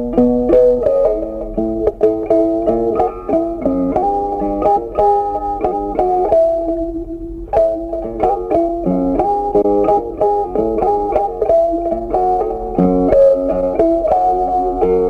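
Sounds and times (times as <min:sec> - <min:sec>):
plucked string music: 0:00.0 - 0:15.0.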